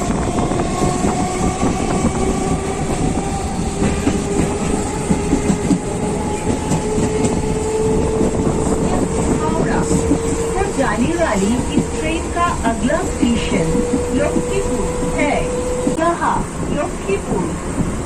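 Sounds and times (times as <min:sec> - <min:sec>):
rail joints clickety-clack: 0:00.0 - 0:18.0
train wheels rumbling on track: 0:00.0 - 0:18.0.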